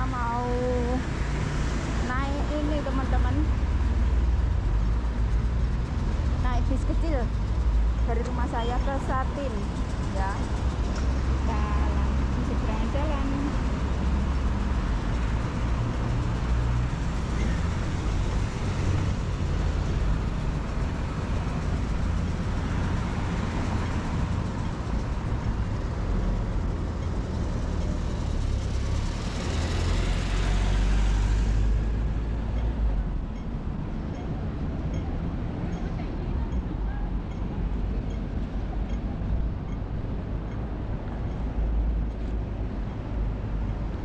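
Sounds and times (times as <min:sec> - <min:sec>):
passing vehicles rumbling: 0:00.0 - 0:44.0.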